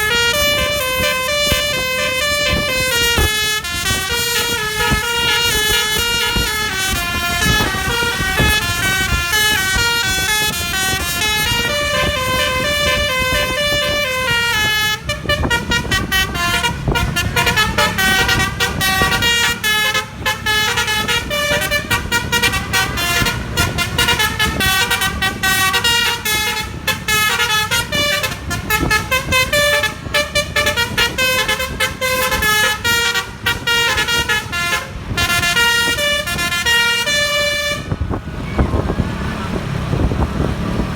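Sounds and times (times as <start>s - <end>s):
bus horn playing a tune: 0.0s - 38.2s.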